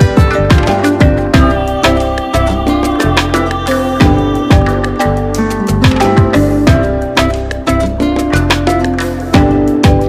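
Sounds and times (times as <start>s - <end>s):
upbeat latin dance music: 0.0s - 10.0s.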